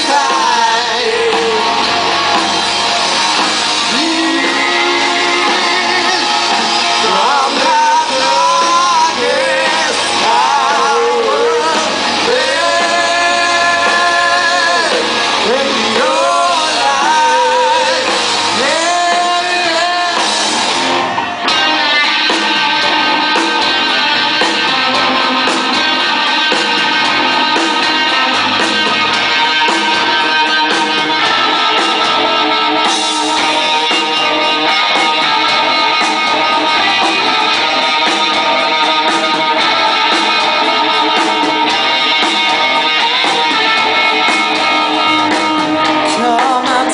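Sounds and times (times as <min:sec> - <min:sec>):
rock band playing: 0:00.0 - 0:46.9
strummed electric guitar chords: 0:00.0 - 0:46.9
wavering lead melody: 0:00.0 - 0:46.9.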